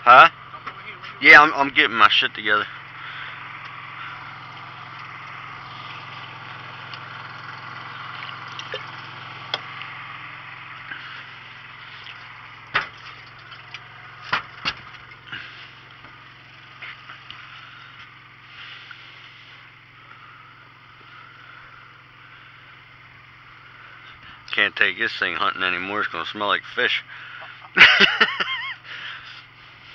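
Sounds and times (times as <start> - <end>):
boat motor hum: 0.0 - 29.9.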